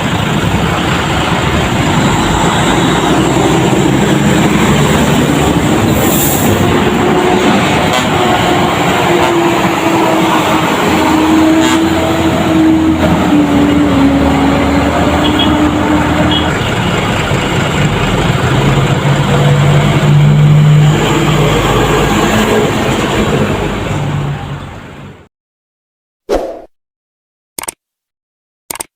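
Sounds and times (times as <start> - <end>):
heavy vehicles passing: 0.0 - 25.3.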